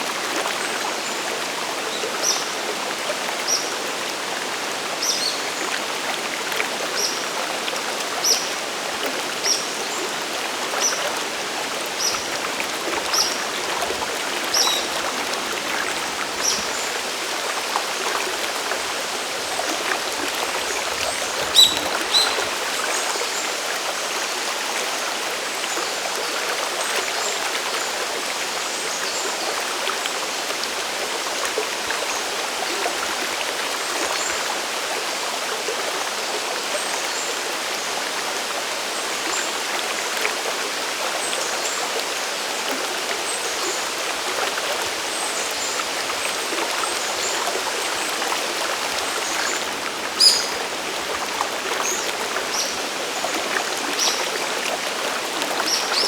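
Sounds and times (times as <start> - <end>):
cascading stream water: 0.0 - 56.0.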